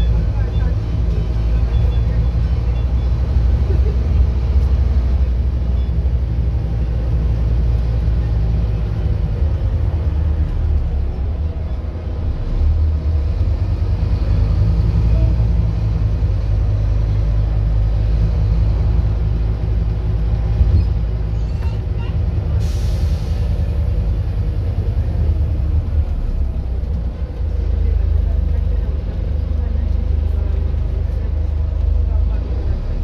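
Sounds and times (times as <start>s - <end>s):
bus diesel engine rumble: 0.0s - 33.0s.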